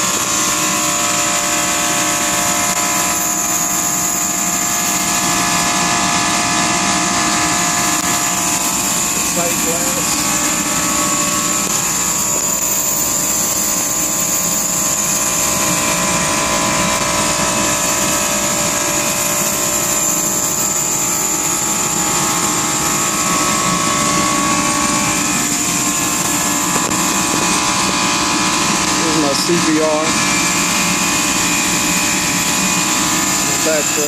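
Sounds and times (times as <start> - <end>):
compressor machine drone: 0.0 - 34.0
high steady whine: 0.0 - 34.0.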